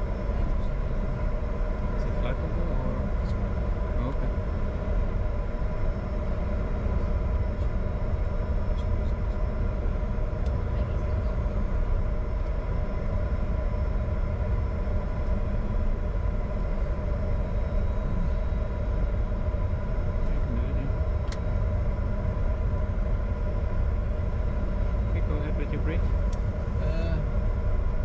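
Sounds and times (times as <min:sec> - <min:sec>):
jet engines idling in cockpit: 0:00.0 - 0:28.0.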